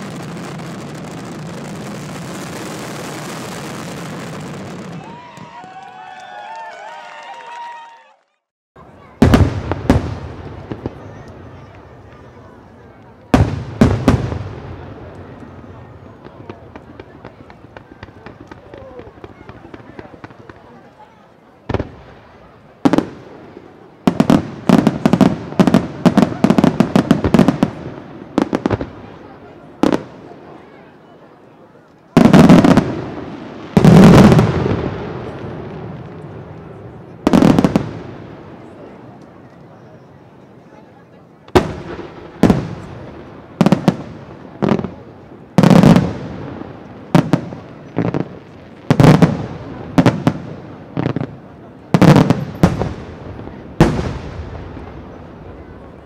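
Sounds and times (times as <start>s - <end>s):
fireworks bangs: 0.0s - 5.9s, 8.8s - 56.0s.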